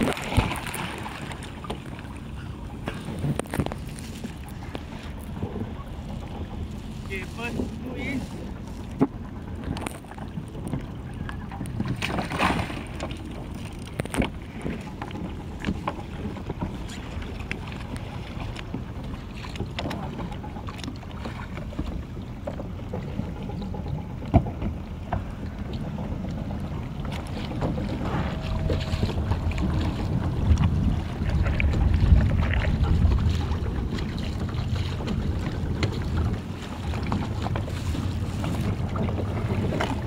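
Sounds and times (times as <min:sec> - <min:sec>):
water splashing and sloshing: 0:00.0 - 0:40.0
wind rumble on microphone: 0:00.0 - 0:40.0.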